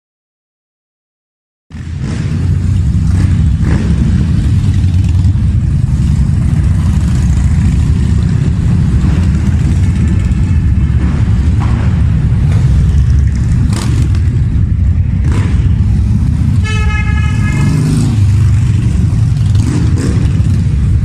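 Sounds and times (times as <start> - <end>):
motorcycle engines rumbling: 1.7 - 21.0.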